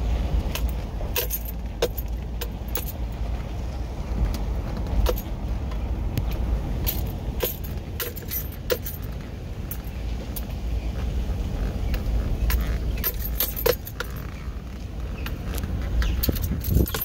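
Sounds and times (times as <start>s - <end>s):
car rolling on gravel road: 0.0s - 17.0s
stones clicking under tyres: 0.0s - 17.0s.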